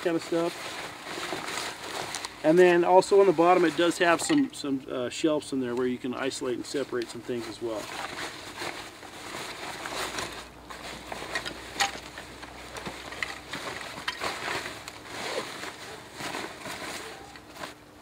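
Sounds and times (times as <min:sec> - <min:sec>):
backpack fabric rustling: 0:00.0 - 0:04.2, 0:07.2 - 0:17.8
straps and buckles scraping: 0:00.0 - 0:04.7, 0:06.7 - 0:17.8.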